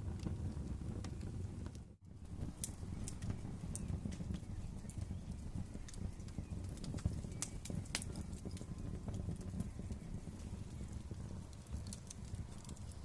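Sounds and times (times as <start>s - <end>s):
wood fire crackling: 0.0s - 13.0s
sharp pops and snaps: 1.0s - 13.0s.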